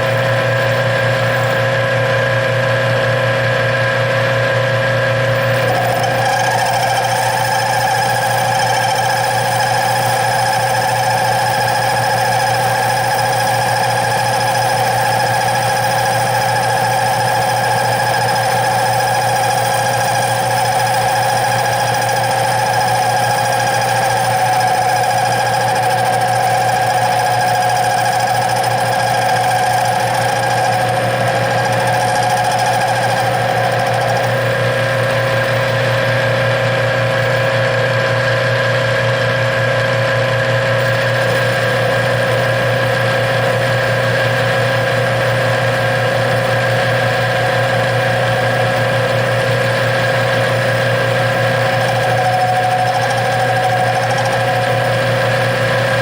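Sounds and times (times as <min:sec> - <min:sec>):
high-pitched whine: 0:00.0 - 0:02.1, 0:05.1 - 0:37.7, 0:40.7 - 0:56.0
metal lathe hum: 0:00.0 - 0:56.0.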